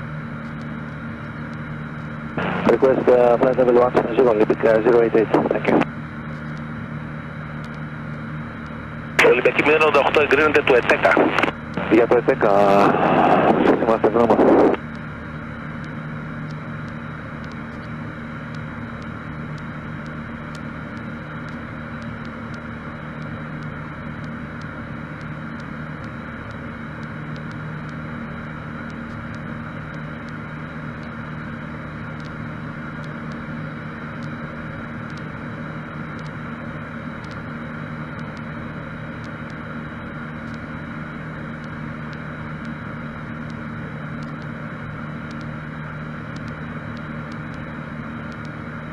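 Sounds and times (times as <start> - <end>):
light aircraft engine droning: 0.0 - 48.9.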